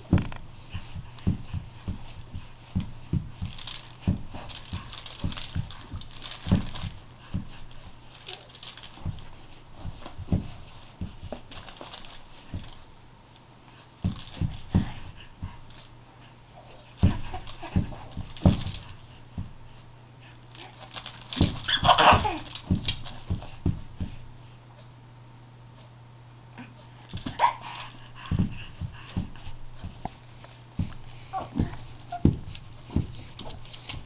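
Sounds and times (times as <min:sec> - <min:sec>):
feet thumping on padded mat: 0:00.0 - 0:12.9, 0:14.0 - 0:15.7, 0:17.0 - 0:19.7, 0:21.0 - 0:24.3, 0:27.1 - 0:34.0
mat and toys rustling: 0:00.0 - 0:24.6, 0:26.6 - 0:34.0.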